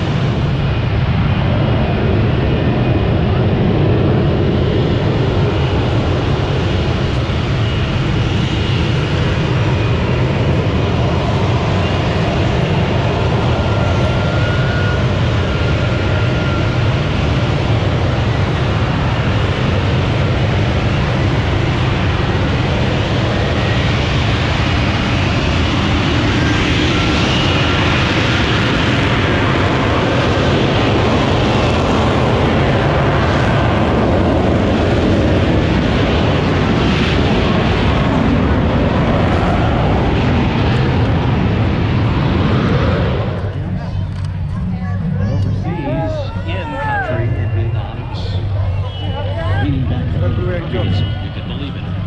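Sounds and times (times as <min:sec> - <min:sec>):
aircraft engine noise: 0:00.0 - 0:52.0.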